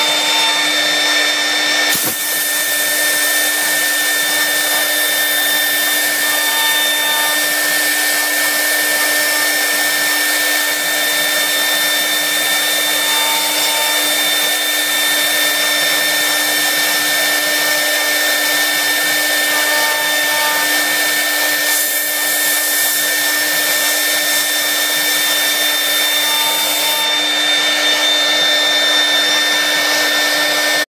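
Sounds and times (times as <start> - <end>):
hiss of wood cutting: 0.0 - 30.8
router spindle whining: 0.0 - 30.9.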